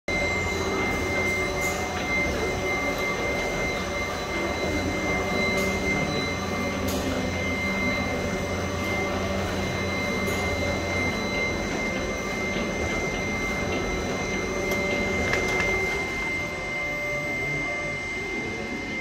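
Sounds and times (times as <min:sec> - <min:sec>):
high whine: 0:00.1 - 0:19.0
machine mechanical hum: 0:00.1 - 0:19.0.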